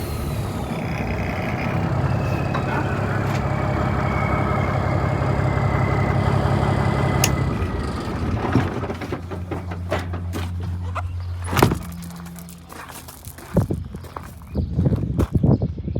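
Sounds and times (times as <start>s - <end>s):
diesel engine running with whine: 0.0s - 15.2s.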